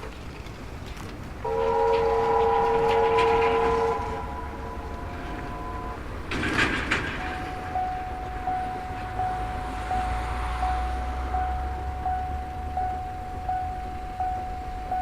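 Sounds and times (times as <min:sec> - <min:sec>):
steam locomotive chime whistle: 0:01.4 - 0:15.0
thin high tone: 0:01.5 - 0:15.0.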